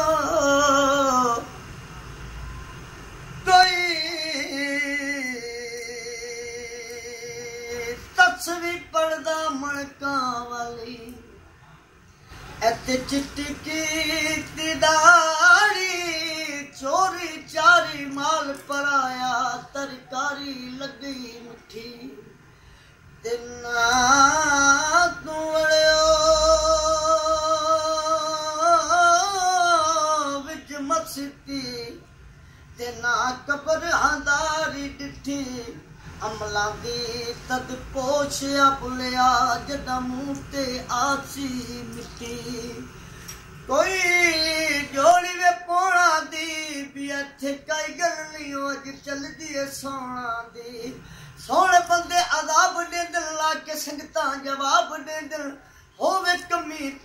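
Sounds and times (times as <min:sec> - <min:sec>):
man singing unaccompanied: 0:00.0 - 0:01.9, 0:03.2 - 0:11.5, 0:12.3 - 0:22.4, 0:23.1 - 0:57.0.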